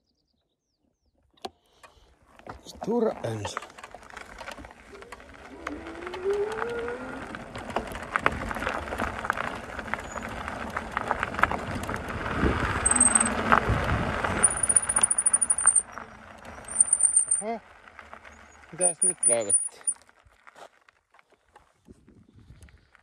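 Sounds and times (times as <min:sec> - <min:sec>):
tyres on gravel: 0:01.6 - 0:23.0.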